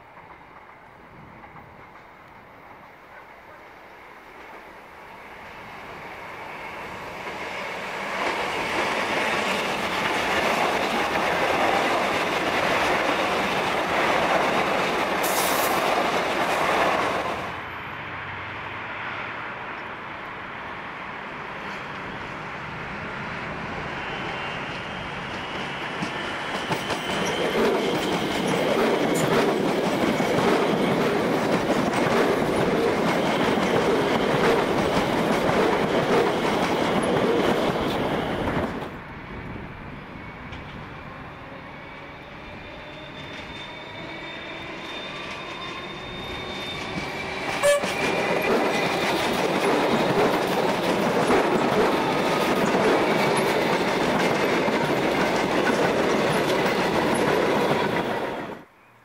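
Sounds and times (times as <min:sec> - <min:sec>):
train wheels rumbling on rail: 0:00.0 - 0:18.0, 0:21.3 - 0:58.7.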